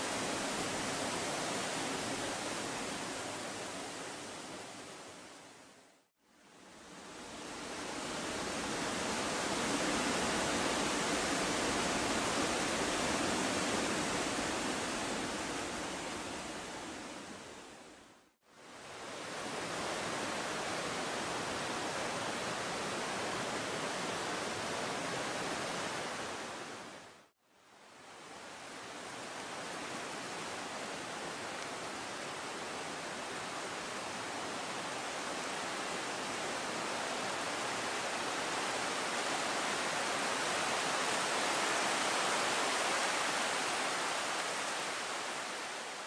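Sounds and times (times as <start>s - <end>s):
stream rushing over rocks: 0.0s - 5.9s, 6.5s - 46.0s.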